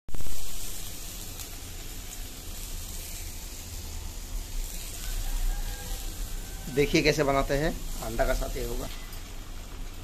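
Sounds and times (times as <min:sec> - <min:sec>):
vegetables sizzling in hot oil: 0:00.1 - 0:10.0.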